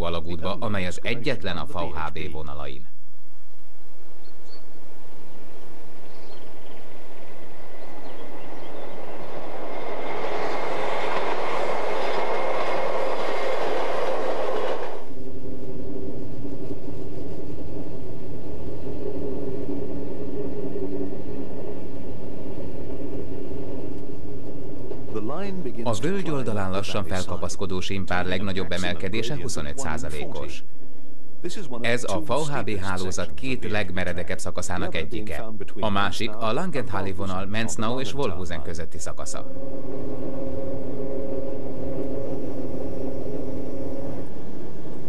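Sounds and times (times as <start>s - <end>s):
train hum with held tones: 3.6s - 45.0s
electric train passing: 3.8s - 35.3s, 36.1s - 45.0s.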